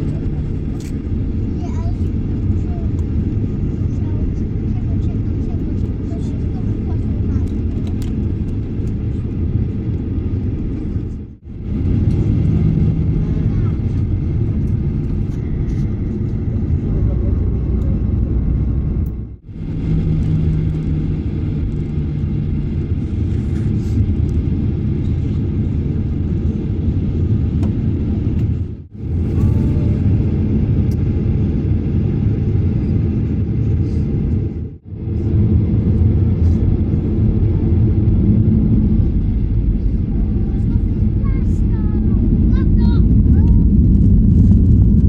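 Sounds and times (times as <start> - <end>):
airliner cabin engine rumble: 0.0 - 45.0.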